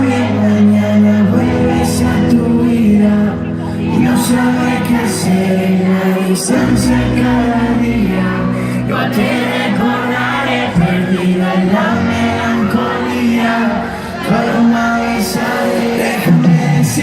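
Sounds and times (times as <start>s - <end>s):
live pop band: 0.0s - 17.0s
people singing: 0.0s - 17.0s.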